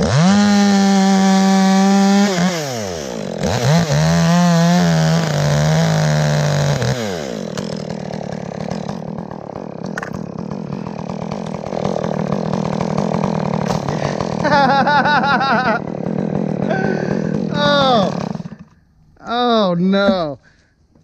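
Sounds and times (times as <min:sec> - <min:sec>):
chainsaw idling: 0:00.0 - 0:19.0.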